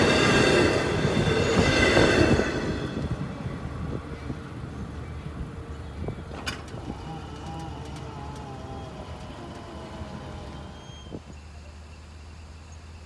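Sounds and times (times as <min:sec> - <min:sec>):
train coaches rolling on rails: 0:00.0 - 0:13.0.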